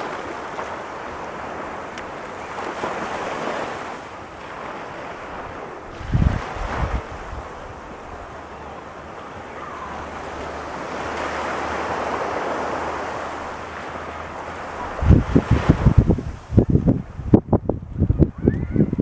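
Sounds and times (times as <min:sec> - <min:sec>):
wave breaking and washing up: 0:00.0 - 0:19.0
wind buffeting microphone: 0:00.0 - 0:19.0.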